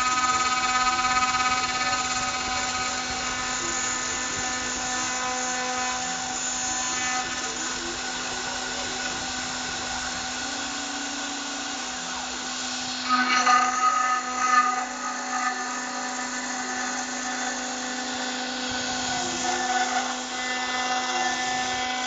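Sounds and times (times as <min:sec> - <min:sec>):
engraving machine spindle whine: 0:00.0 - 0:22.0.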